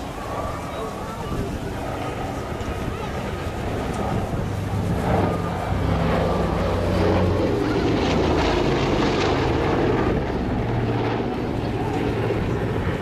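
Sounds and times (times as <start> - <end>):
propeller airliner passing low: 0.0 - 13.0.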